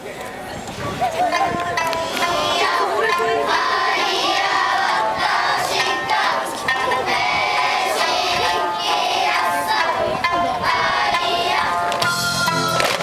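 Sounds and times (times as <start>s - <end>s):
folk dance music with singing: 0.0s - 13.0s.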